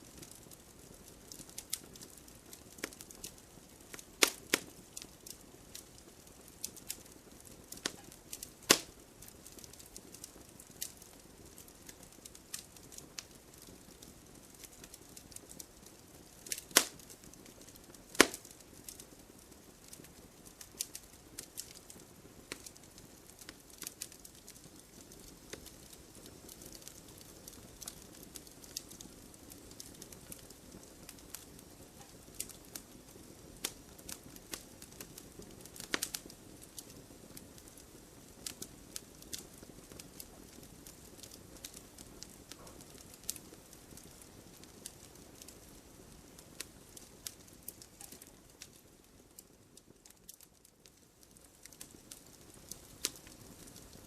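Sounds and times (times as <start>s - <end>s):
faint hiss: 0.0s - 54.0s
fireplace fire crackling and popping: 0.0s - 54.0s.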